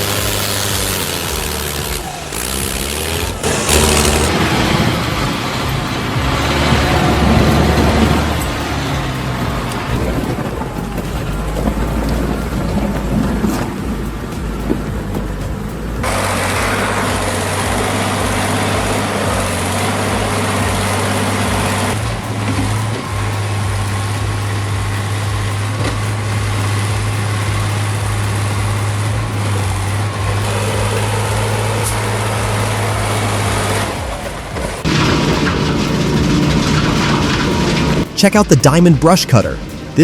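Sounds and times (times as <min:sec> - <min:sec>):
large engine humming: 0:00.0 - 0:40.0.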